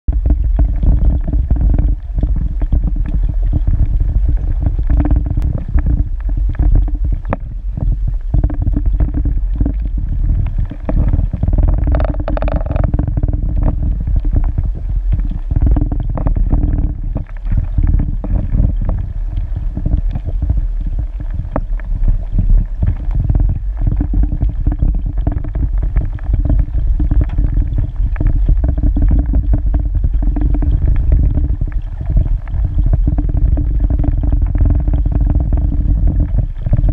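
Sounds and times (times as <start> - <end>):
underwater rumble of moving water: 0.0 - 36.9
small clicks and crackles: 0.1 - 36.9.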